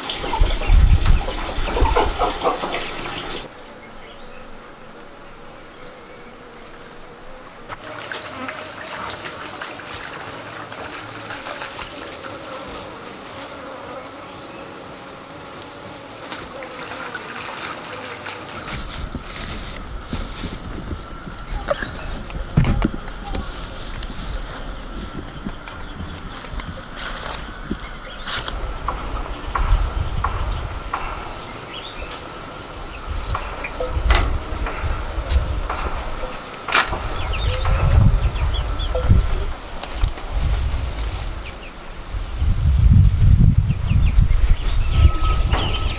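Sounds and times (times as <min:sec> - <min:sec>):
insects shrilling: 0:00.0 - 0:45.9.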